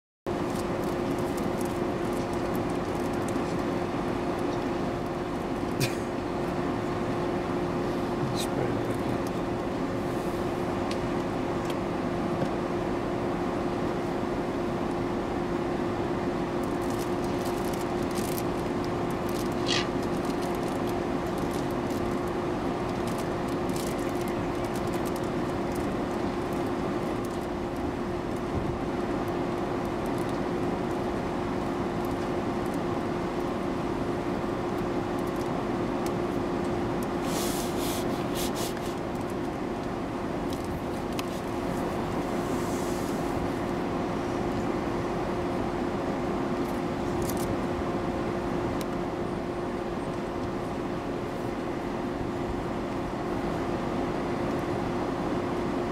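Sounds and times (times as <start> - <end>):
mechanical hum: 0.3 - 55.9.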